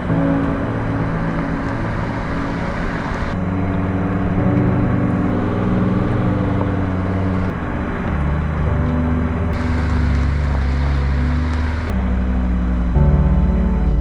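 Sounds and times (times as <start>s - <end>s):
diesel engine running: 0.8s - 14.0s.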